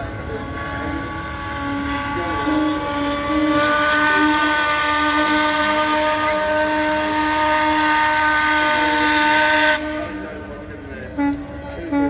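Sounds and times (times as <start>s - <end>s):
steam whistle blast: 0.3s - 10.2s.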